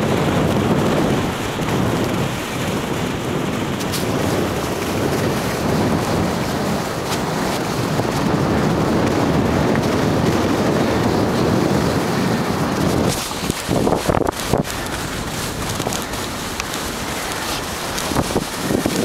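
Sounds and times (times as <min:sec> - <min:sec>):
skis sliding over snow: 0:00.0 - 0:19.0
wind rushing on microphone: 0:00.0 - 0:19.0.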